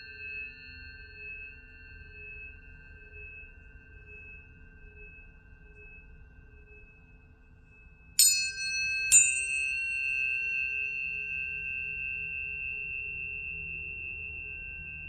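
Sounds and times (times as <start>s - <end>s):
pure high ringing tone: 0.0s - 15.0s
tuning forks struck: 0.0s - 15.0s.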